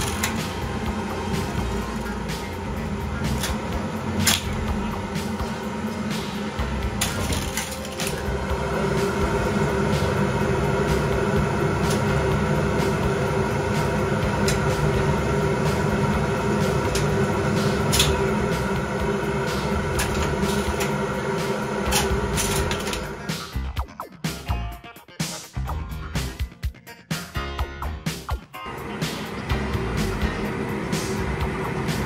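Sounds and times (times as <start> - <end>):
lift machinery humming: 0.0 - 23.7, 28.6 - 32.0.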